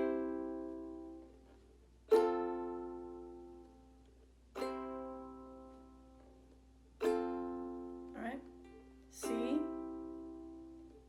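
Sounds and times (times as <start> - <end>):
ukulele strums: 0.0 - 11.0.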